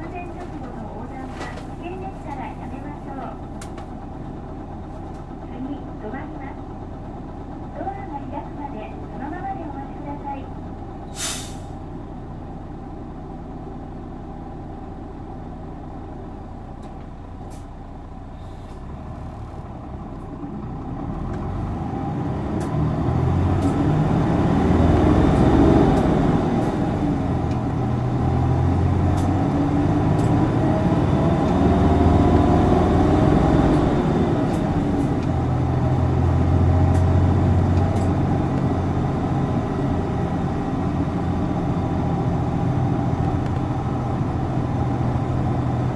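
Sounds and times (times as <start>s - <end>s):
bus diesel engine revving: 0.0s - 45.9s.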